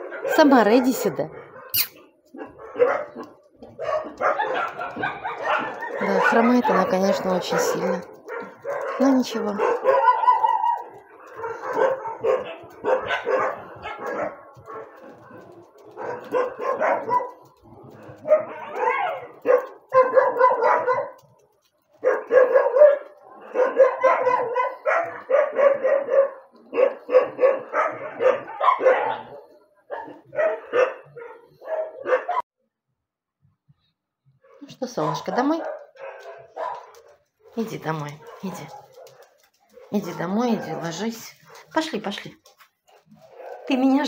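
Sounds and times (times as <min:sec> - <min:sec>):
dog barking: 0:00.0 - 0:32.4, 0:34.4 - 0:41.8, 0:42.9 - 0:44.0.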